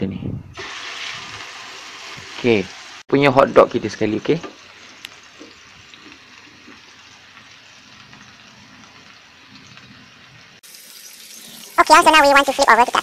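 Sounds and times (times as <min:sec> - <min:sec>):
meat sizzling on a griddle: 0:00.6 - 0:13.0.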